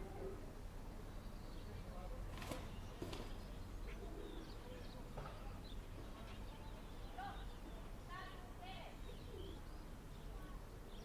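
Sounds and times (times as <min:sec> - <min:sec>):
small birds chirping: 0:01.1 - 0:11.0.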